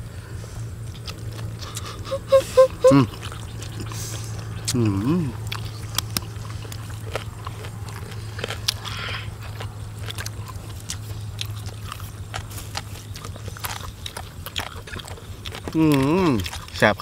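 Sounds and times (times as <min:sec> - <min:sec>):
people chewing food: 0:00.0 - 0:17.0
steady low hum: 0:00.0 - 0:17.0.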